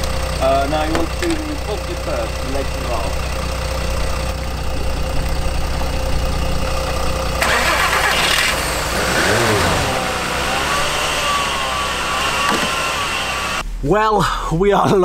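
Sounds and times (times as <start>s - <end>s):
car engine cranking and starting: 0.0s - 13.6s
car engine idling: 0.0s - 13.7s.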